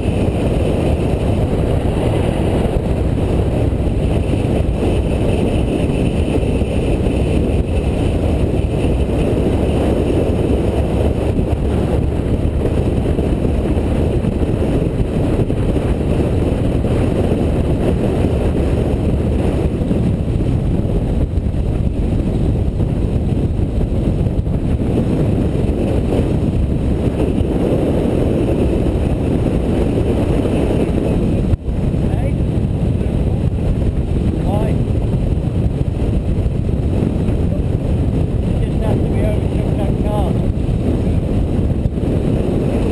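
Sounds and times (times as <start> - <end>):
motorcycle engine and road noise: 0.0 - 42.9
wind rumble on microphone: 0.0 - 42.9.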